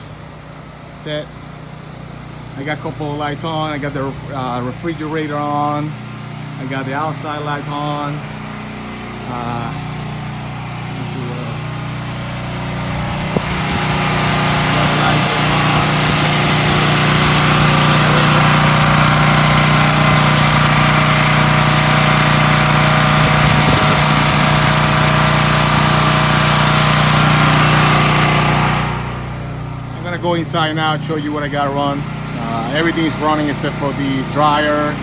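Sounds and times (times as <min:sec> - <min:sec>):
portable generator running: 0:00.0 - 0:35.0.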